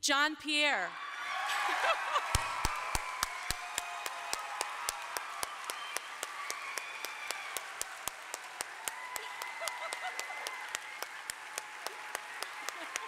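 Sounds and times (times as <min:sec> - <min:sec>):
audience applauding: 0:01.0 - 0:13.0
close hands clapping steadily: 0:02.2 - 0:13.0.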